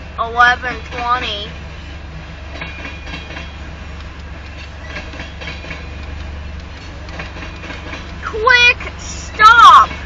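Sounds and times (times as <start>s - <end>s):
light clicking of rail cars: 0.0s - 10.0s
train wheels rumbling on rail: 0.0s - 10.0s.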